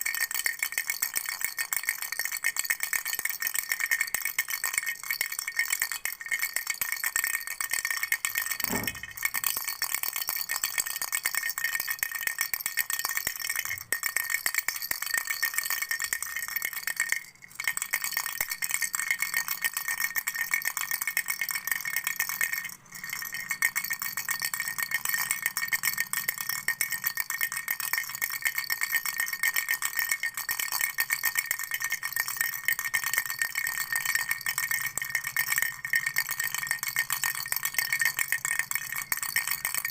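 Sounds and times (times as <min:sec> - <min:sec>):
toy rattle jingling: 0:00.0 - 0:39.9.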